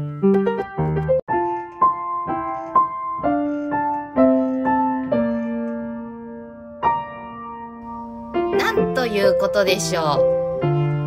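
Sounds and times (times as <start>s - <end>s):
solo piano slow melody: 0.0s - 11.0s.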